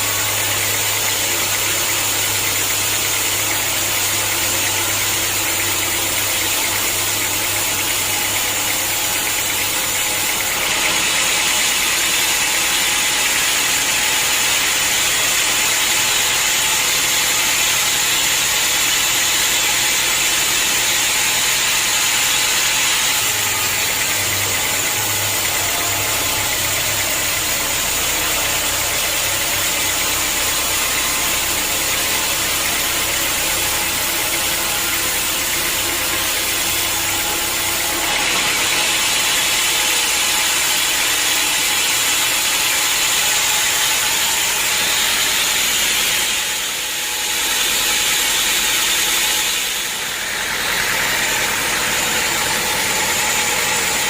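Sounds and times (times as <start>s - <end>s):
sawmill saw and motor running: 0.0s - 54.0s.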